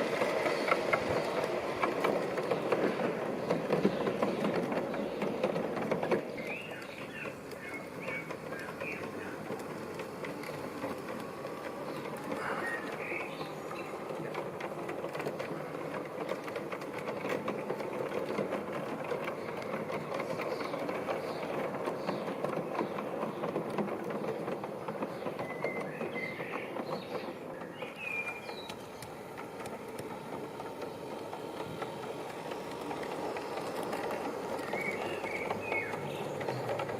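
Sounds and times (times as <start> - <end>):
wheels clicking on rails: 0.0 - 36.9.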